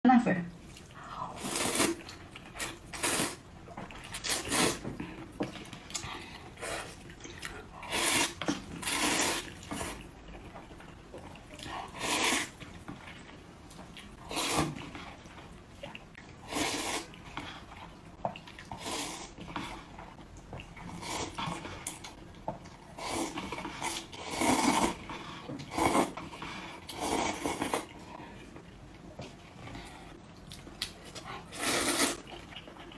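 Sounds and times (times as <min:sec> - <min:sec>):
noodles slurped and chewed: 0:00.6 - 0:32.9.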